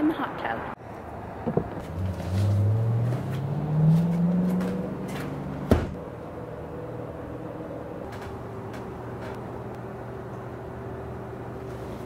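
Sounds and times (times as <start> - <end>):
low hum rising in pitch: 1.9 - 11.6.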